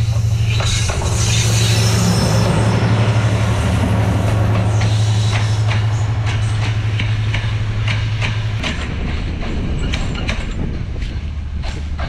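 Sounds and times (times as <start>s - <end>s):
strong low hum: 0.0s - 9.8s
train wheels clicking over rail joints: 0.0s - 12.0s.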